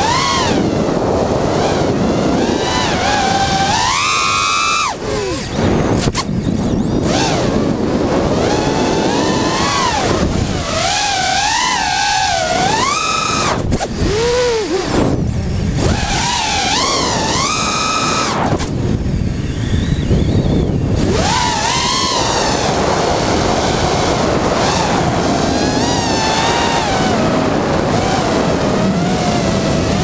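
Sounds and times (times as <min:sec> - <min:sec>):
drone motors whining: 0:00.0 - 0:30.0
rushing wind noise: 0:00.0 - 0:30.0.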